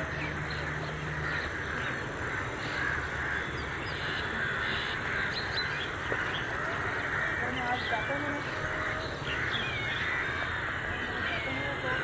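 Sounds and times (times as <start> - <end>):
birds calling: 0.0 - 12.0
outdoor background noise: 0.0 - 12.0.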